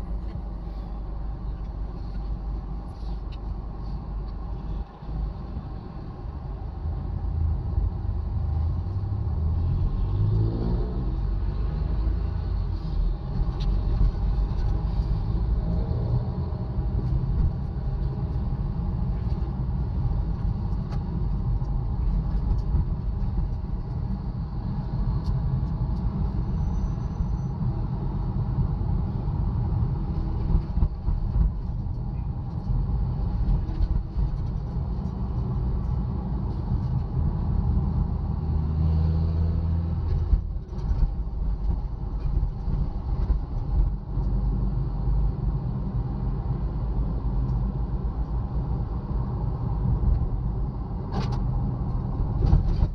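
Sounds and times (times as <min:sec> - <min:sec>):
heavy road traffic rumble: 0:00.0 - 0:52.9.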